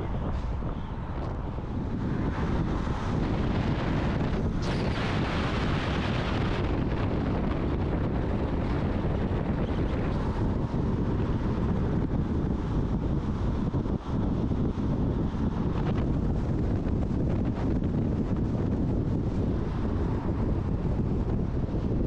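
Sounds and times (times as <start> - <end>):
motorcycle engine and road rumble: 0.0 - 22.0
wind rushing across microphone: 0.0 - 22.0.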